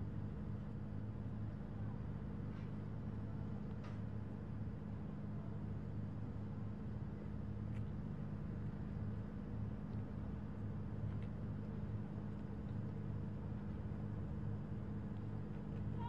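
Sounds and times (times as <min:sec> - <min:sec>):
faint outdoor background noise: 0:00.0 - 0:16.0
steady low mechanical hum: 0:00.0 - 0:16.0.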